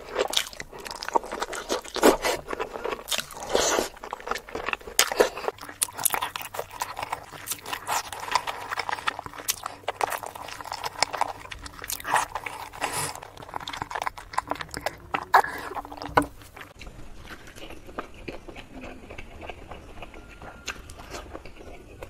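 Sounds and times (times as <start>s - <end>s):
person chewing softly: 0.0s - 22.0s.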